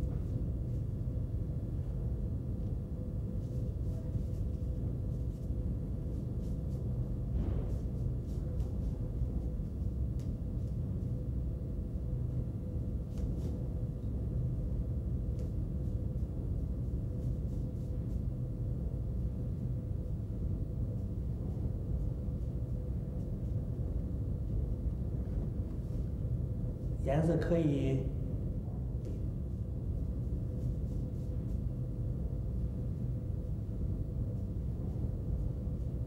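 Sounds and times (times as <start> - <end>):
low hum and rumble: 0.0 - 36.0.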